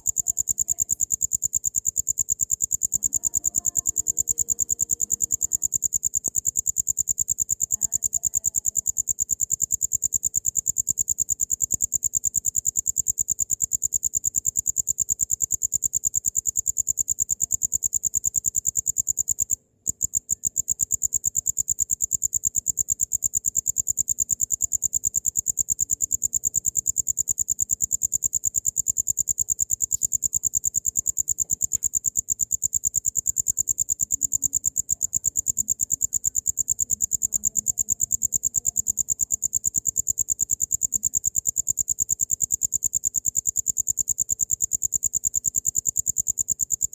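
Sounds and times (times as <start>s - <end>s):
cricket chirping: 0.0s - 46.9s.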